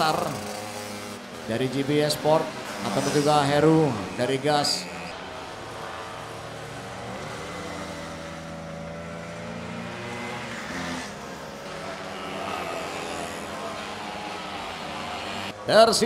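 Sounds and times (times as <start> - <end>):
scooter engines racing: 0.0 - 16.0.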